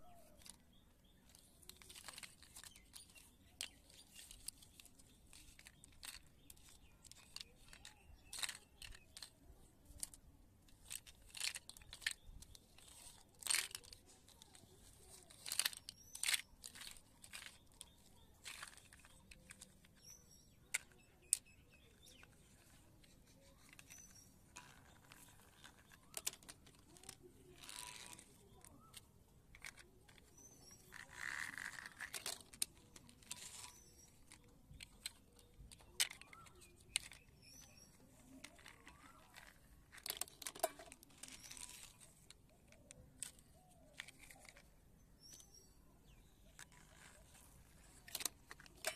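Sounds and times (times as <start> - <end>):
plastic toy blocks clacking: 0.0 - 48.9.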